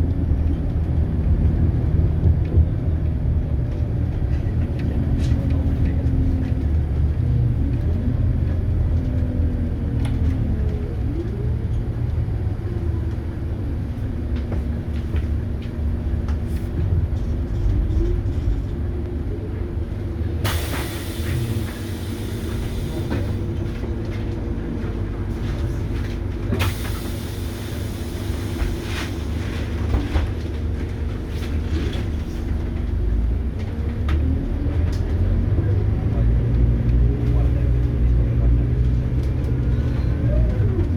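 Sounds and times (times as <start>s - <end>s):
bus diesel engine running: 0.0s - 40.9s
road rumble: 0.0s - 40.9s.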